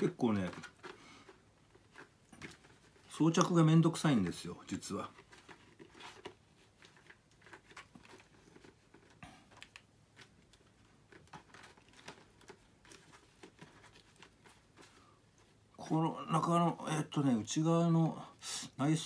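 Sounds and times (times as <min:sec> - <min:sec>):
paper helmet rustling and creaking: 0:00.0 - 0:19.0.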